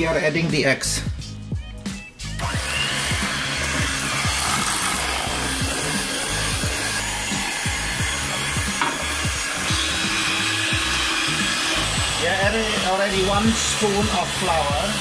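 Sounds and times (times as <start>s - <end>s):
beaters rubbing metal bowl: 2.4s - 15.0s
electric hand mixer running: 2.4s - 15.0s.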